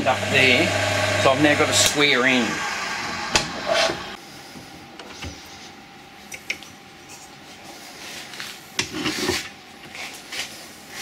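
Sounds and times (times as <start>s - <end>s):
low workshop hum: 0.0s - 11.0s.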